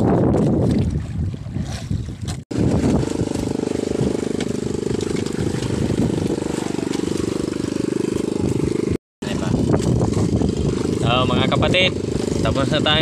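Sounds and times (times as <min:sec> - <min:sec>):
small engine running: 0:02.5 - 0:13.0.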